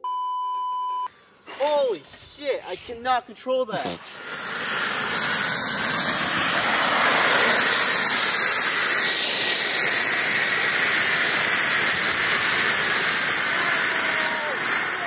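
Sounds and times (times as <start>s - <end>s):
small jet engine rushing and whining: 1.1s - 15.0s.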